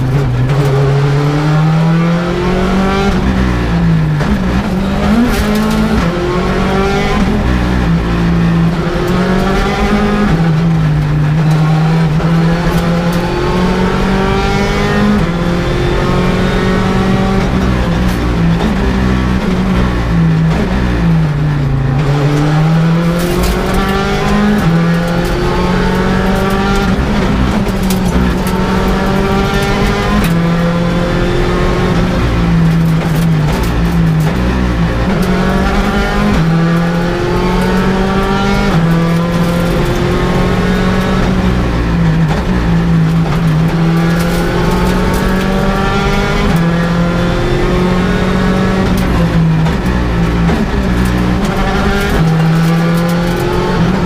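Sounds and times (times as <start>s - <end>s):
sharp clicks and clunks: 0.0s - 1.2s, 4.2s - 8.0s, 8.6s - 21.1s, 21.9s - 54.0s
rally car engine revving: 0.0s - 54.0s.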